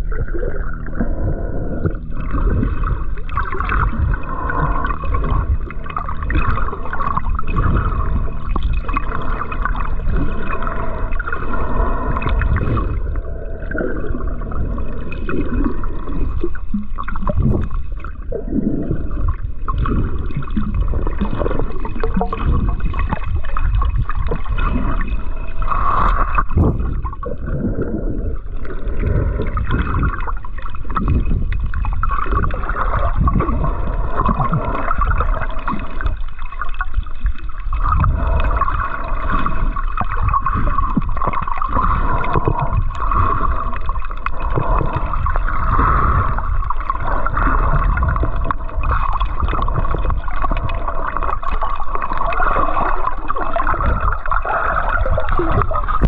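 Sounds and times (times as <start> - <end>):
underwater gurgling and sloshing: 0.0 - 56.0.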